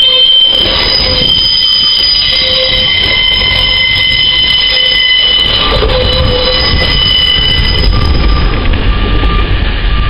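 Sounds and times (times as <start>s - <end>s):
train rumble: 0.0s - 10.0s
train wheels squealing: 0.0s - 10.0s.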